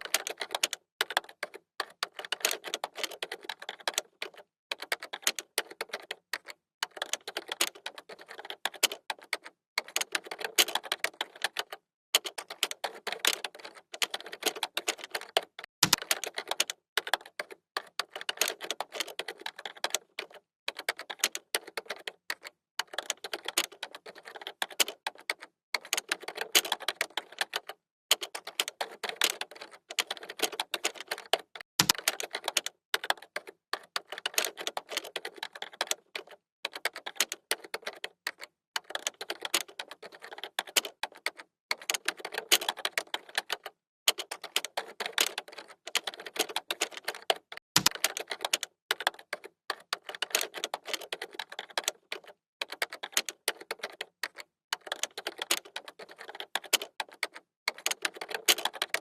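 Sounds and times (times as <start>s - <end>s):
fast typing on keyboard: 0.0s - 59.0s.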